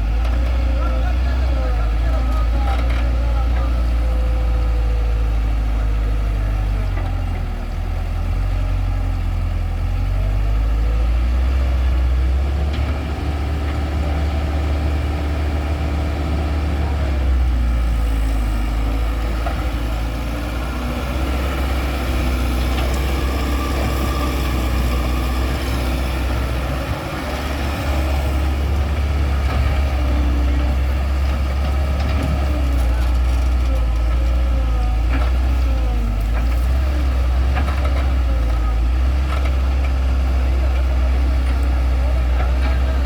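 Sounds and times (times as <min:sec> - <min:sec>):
diesel machinery droning: 0:00.0 - 0:43.0.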